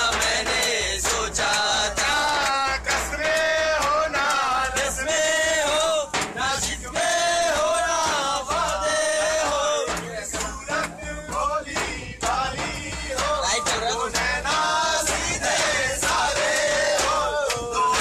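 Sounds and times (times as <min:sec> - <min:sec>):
frame drum strokes: 0:00.0 - 0:18.0
men singing together: 0:00.0 - 0:18.0.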